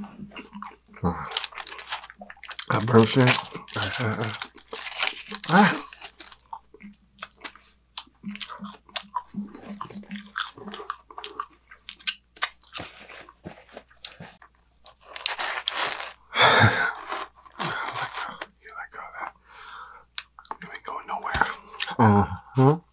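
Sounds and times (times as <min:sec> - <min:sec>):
person chewing pizza: 0:00.0 - 0:18.5.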